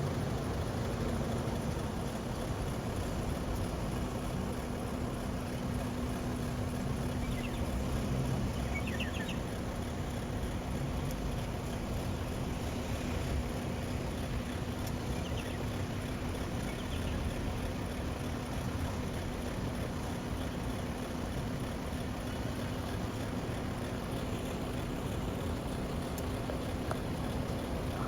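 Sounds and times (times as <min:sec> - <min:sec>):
heavy truck engine running: 0:00.0 - 0:28.0.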